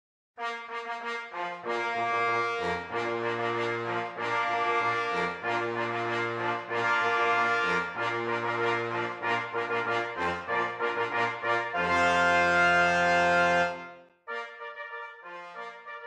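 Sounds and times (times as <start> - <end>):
brass background music: 0.4 - 16.0.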